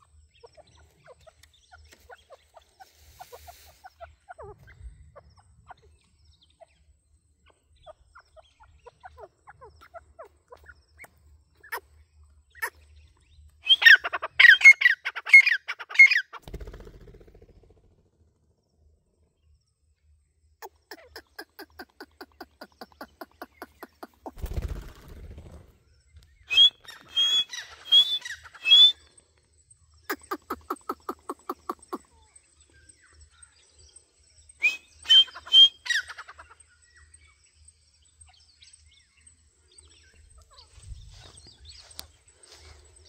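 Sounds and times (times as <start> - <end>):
francolins calling: 0.0 - 16.4, 20.6 - 25.1, 26.1 - 43.0.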